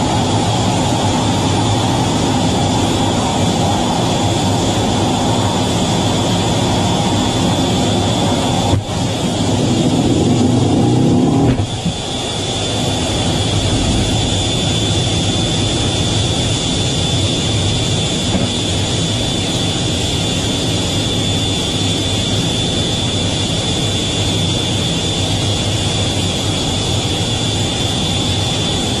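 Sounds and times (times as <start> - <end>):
high whine: 0.0 - 29.0
jet engines and rushing airflow: 0.0 - 29.0.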